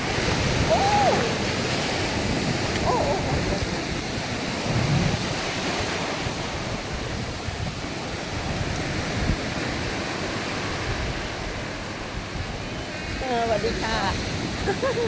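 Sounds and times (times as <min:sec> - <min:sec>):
waves washing onto sandy beach: 0:00.0 - 0:15.0
wind buffeting the microphone: 0:00.0 - 0:15.0.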